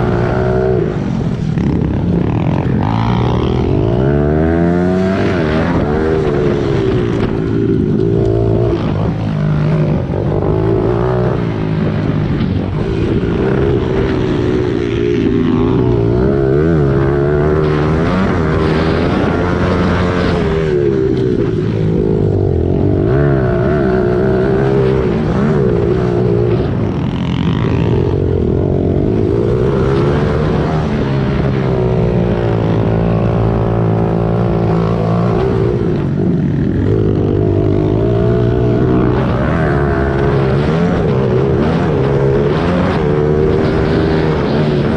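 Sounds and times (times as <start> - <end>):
pit bike engine revving: 0.0 - 44.9.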